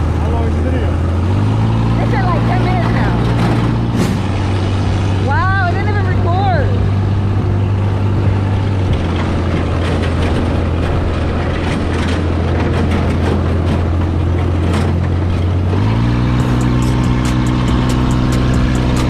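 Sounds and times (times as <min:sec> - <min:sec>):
vehicle engine revving: 0:00.0 - 0:19.0
rattles and knocks: 0:02.1 - 0:06.4, 0:07.4 - 0:19.0.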